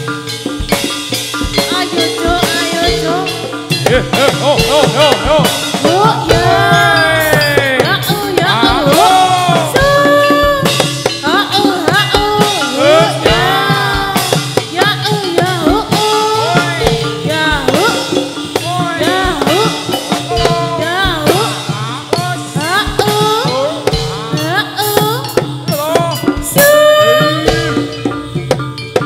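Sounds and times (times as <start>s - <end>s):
drums beating: 0.0s - 29.0s.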